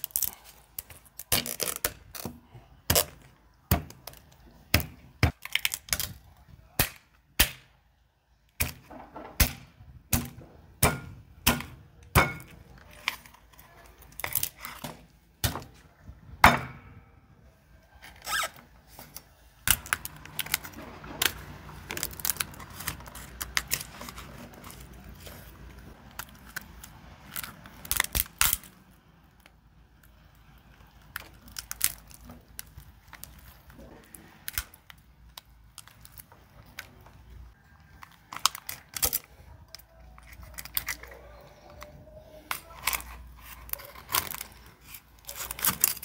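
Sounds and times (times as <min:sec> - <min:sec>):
shell crackling and crunching: 0:00.0 - 0:07.9, 0:11.1 - 0:15.9, 0:17.9 - 0:46.0.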